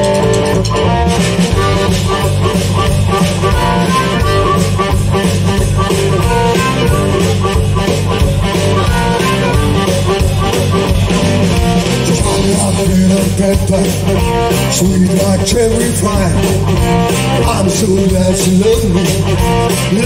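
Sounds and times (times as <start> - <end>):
bass guitar: 0.0 - 20.0
drum kit: 0.0 - 20.0
electric guitar: 0.0 - 20.0.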